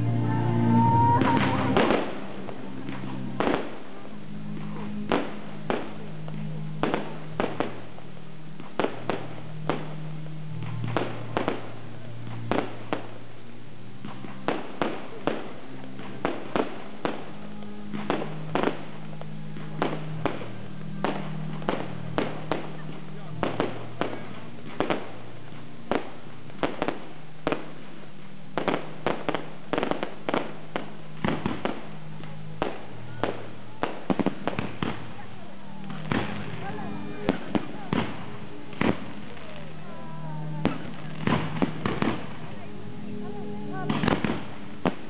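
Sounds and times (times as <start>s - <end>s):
music with low notes: 0.0s - 45.0s
fireworks bangs and pops: 1.0s - 13.2s, 14.0s - 39.7s, 40.5s - 42.7s, 43.8s - 45.0s.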